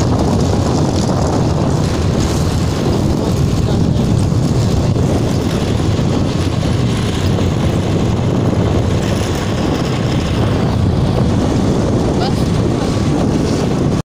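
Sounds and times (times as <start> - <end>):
motorbike engine running: 0.0 - 14.0
road noise: 0.0 - 14.0
wind rush: 0.0 - 14.0.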